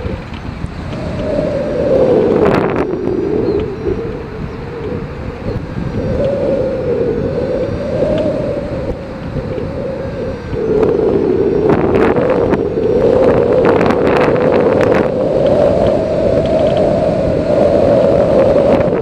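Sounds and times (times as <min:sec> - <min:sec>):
wind rushing over camera: 0:00.0 - 0:19.0.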